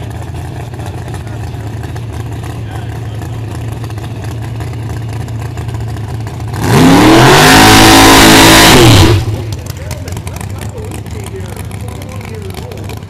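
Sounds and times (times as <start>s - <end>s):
drag car engine revving: 0.0s - 13.0s.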